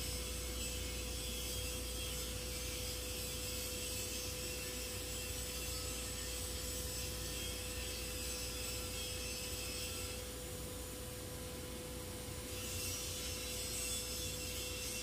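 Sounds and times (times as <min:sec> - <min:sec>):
welding arc hissing and buzzing: 0:00.0 - 0:15.0.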